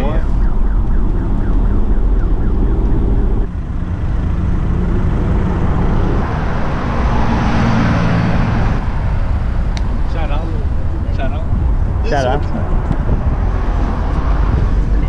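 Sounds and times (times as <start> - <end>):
highway traffic noise: 0.0 - 15.0
passing vehicle rush: 0.0 - 15.0
road rumble inside a van: 0.0 - 15.0.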